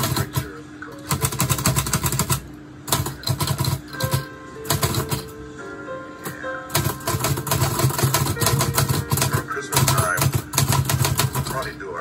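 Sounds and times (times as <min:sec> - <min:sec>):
typewriter keystrokes: 0:00.0 - 0:05.3, 0:06.2 - 0:11.7
soft background music: 0:00.0 - 0:12.0.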